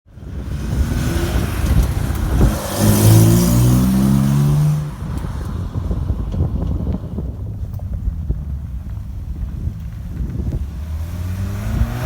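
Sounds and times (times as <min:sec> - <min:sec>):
car engine accelerating: 0:00.1 - 0:12.0.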